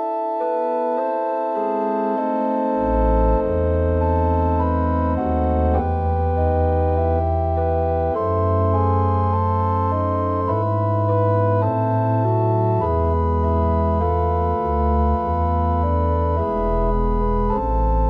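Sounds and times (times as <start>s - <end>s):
church organ playing chords: 0.0s - 18.0s.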